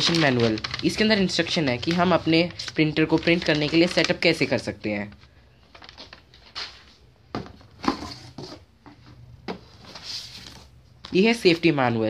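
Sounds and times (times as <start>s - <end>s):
paper and plastic rustling: 0.0s - 8.6s, 9.5s - 11.7s.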